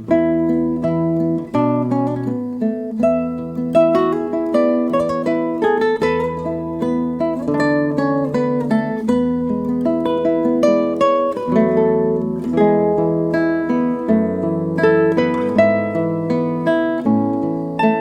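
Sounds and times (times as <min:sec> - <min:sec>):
solo guitar improvising: 0:00.0 - 0:18.0.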